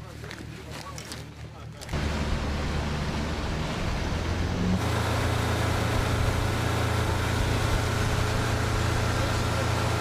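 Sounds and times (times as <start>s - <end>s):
heavy engine droning: 2.0s - 10.0s.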